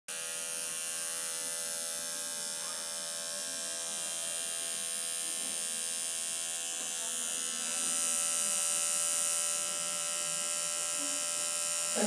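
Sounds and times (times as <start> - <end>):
pump motor buzzing and whining: 0.1 - 12.0.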